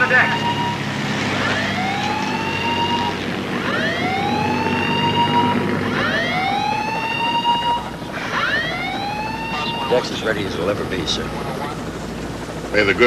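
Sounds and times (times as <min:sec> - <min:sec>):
alarm siren whooping: 0:00.0 - 0:12.0.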